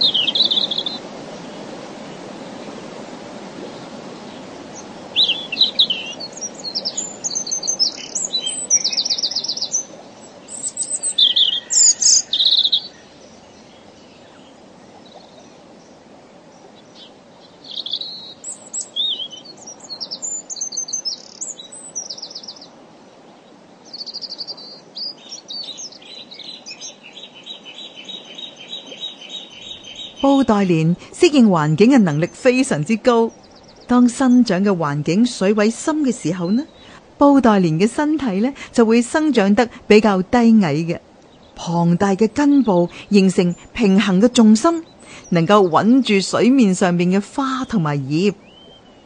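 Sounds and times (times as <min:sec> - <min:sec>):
birds chirping and trilling: 0:00.0 - 0:01.6, 0:03.8 - 0:49.0
faint outdoor hiss: 0:00.0 - 0:49.0.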